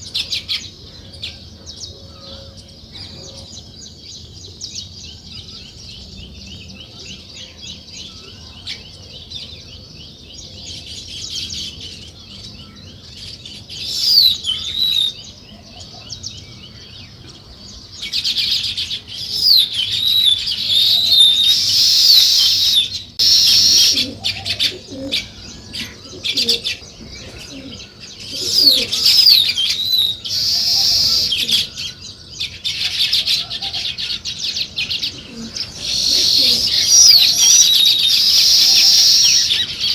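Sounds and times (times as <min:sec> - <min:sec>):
small birds chirping: 0:00.0 - 0:39.9
sweeping bird calls: 0:00.0 - 0:39.9.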